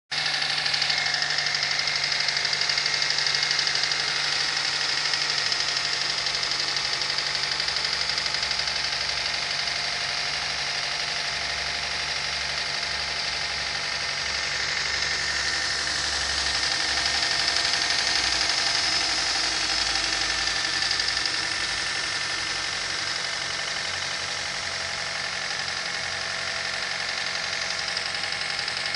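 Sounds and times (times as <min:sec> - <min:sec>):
engine running: 0:00.1 - 0:28.9.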